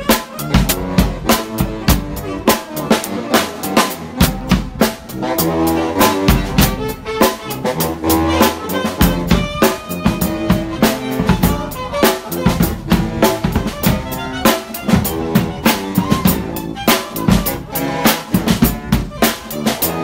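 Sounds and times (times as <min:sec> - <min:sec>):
brass band playing: 0:00.0 - 0:20.0
snare and bass drum hits: 0:00.0 - 0:20.0.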